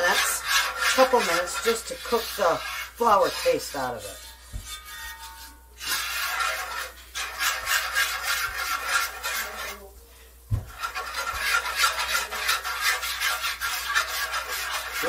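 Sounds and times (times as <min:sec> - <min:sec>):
metal whisk scraping in skillet: 0:00.0 - 0:15.0.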